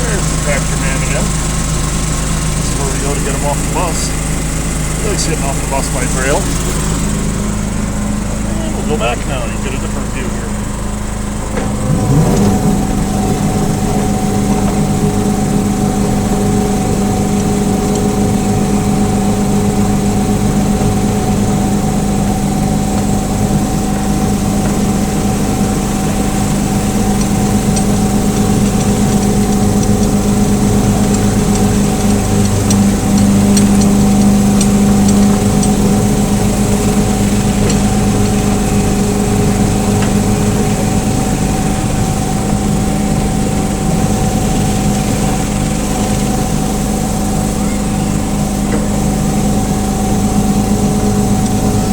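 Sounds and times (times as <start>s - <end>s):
locomotive engine revving: 0.0s - 51.9s.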